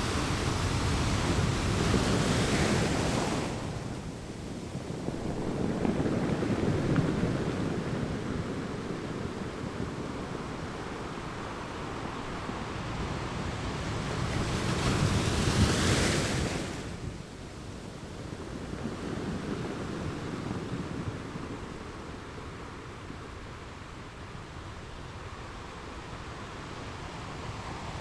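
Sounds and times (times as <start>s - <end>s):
ocean waves washing ashore: 0.0s - 28.0s.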